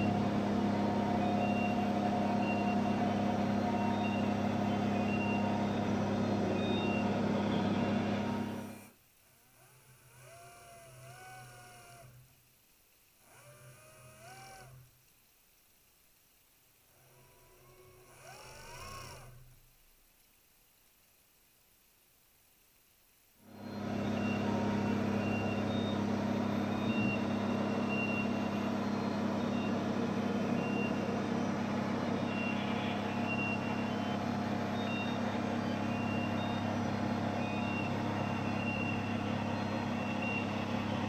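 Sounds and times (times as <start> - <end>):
machinery hum and hiss: 0.0 - 41.0.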